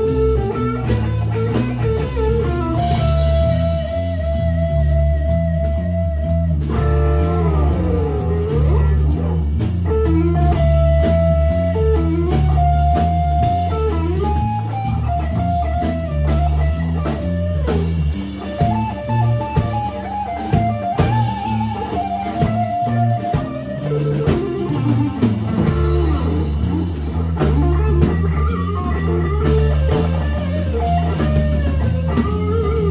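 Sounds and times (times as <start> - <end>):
lead electric guitar bent notes: 0.0 - 32.9
rock band playing live: 0.0 - 32.9.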